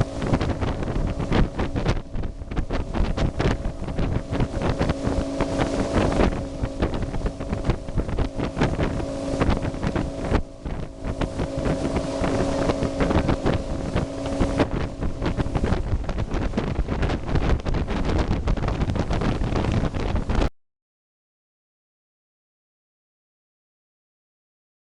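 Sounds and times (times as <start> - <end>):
motorboat engine humming: 0.0 - 20.5
wind buffeting microphone: 0.0 - 20.5.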